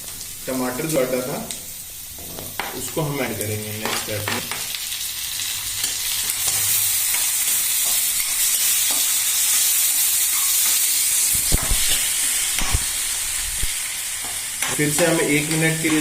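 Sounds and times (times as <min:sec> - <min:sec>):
onions sizzling in a pan: 0:00.0 - 0:16.0.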